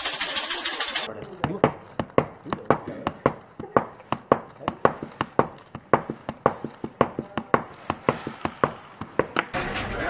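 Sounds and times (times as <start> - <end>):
rubber stamp tapping on paper: 1.4 - 9.6.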